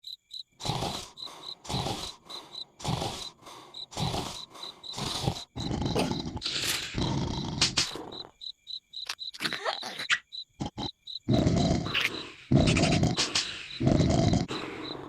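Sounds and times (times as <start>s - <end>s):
cartoon snoring: 0.6s - 8.4s, 10.6s - 15.0s.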